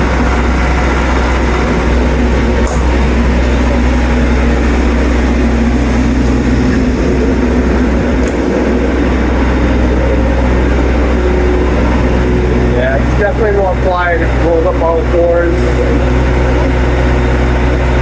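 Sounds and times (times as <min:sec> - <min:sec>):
generator engine humming: 0:00.0 - 0:18.0.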